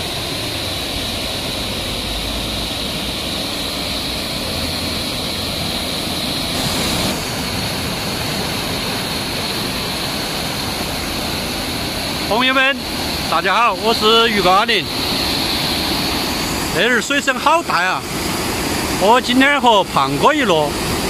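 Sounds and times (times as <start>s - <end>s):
water rushing over a weir: 0.0s - 21.0s.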